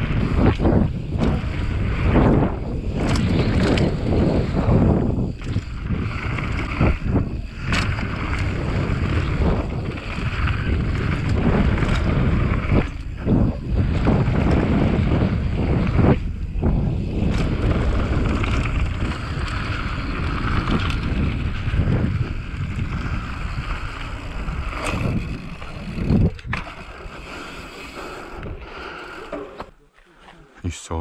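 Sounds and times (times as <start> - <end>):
wind rushing over microphone: 0.0 - 28.7
bike tyres on trail: 0.0 - 30.5.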